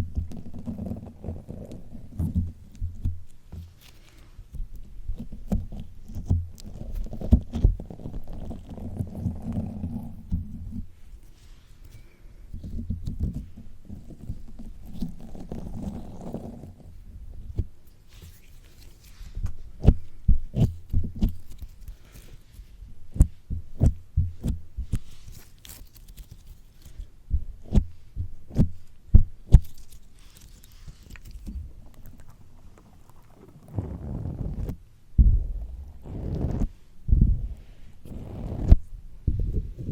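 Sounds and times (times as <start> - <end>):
slime squishing against microphone: 0.0 - 39.9.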